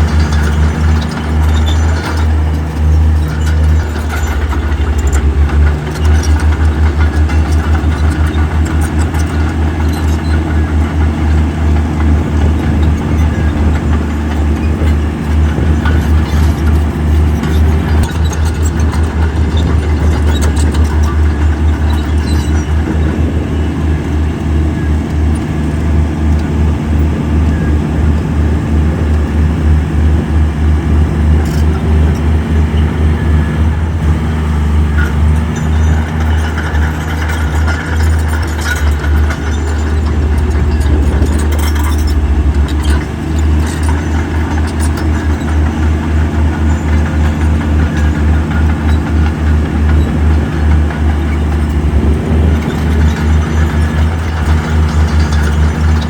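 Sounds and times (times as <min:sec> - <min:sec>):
heavy diesel engine throbbing: 0:00.0 - 0:56.0.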